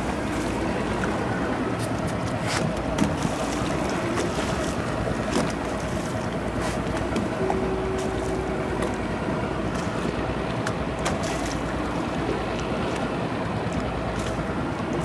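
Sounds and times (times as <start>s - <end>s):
motorboat engine: 0.0s - 15.0s
water rushing: 0.0s - 15.0s.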